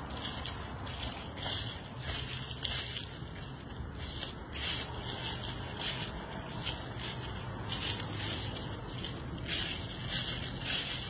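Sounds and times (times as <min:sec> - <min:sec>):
footsteps in dry leaves: 0:00.0 - 0:11.0.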